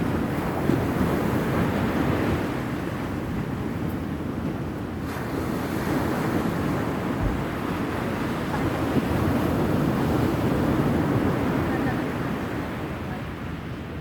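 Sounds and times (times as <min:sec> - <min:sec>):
surf at the shore: 0:00.0 - 0:14.0
wind: 0:00.0 - 0:14.0
wind buffeting microphone: 0:00.0 - 0:14.0.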